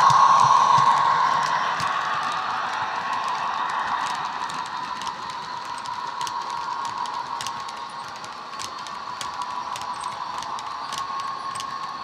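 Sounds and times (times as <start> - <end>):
model wagon wheels clicking: 0.0 - 12.0.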